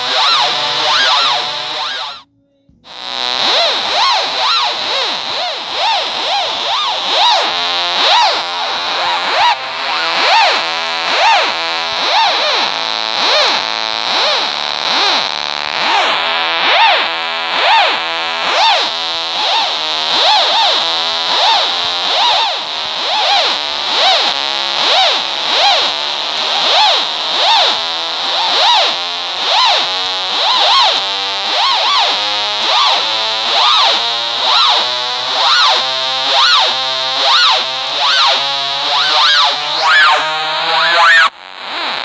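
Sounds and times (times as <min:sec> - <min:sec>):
distorted synth tone sweeping: 0:00.0 - 0:42.0.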